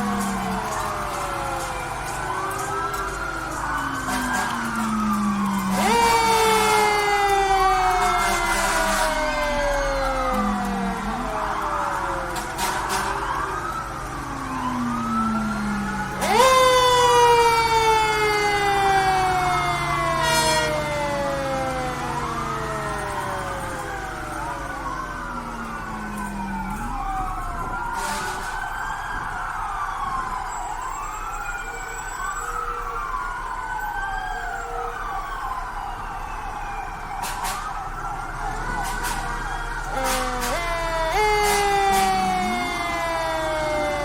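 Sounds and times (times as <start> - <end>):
truck engine rumble: 0.0 - 30.3, 36.9 - 44.0
wailing sirens: 0.0 - 44.0.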